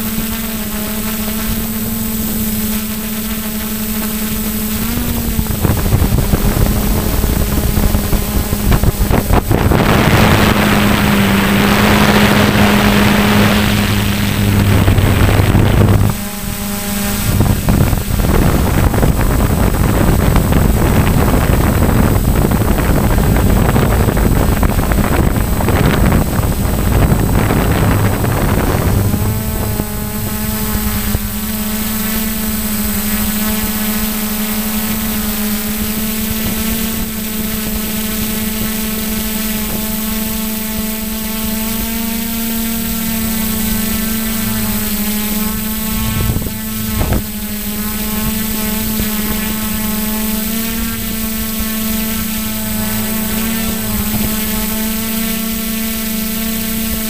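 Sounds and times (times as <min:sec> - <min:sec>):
model airplane motor droning: 0:00.0 - 0:57.0
wind rushing over microphone: 0:00.0 - 0:57.0.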